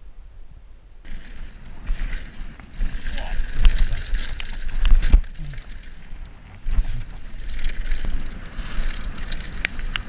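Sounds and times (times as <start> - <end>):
bike tyres rolling over gravel: 1.0 - 10.0
wind buffeting microphone: 1.0 - 10.0
bike rattling and knocking: 1.1 - 10.0.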